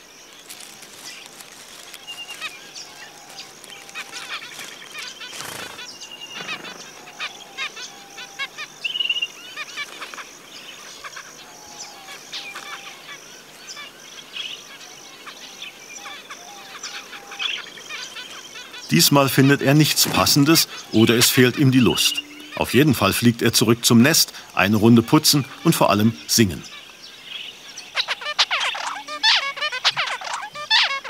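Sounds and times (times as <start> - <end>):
finches chirping: 0.0 - 31.0
high insect buzz: 0.0 - 31.0.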